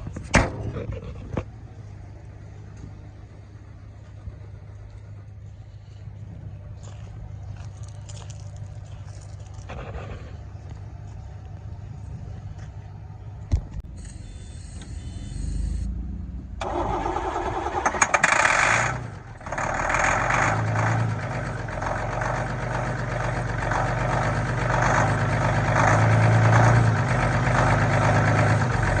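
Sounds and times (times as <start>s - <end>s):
diesel engine cranking and idling: 0.0s - 29.0s.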